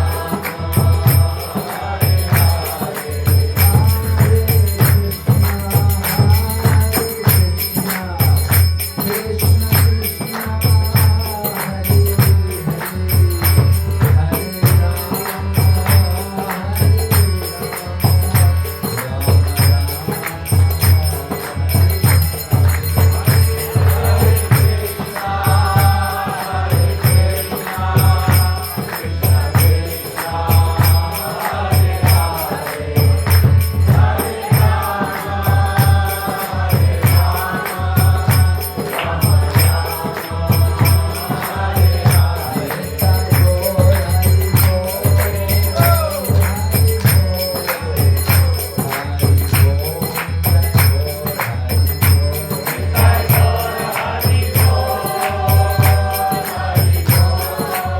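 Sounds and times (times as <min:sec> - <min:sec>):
jingling hand cymbals: 0:00.0 - 0:57.9.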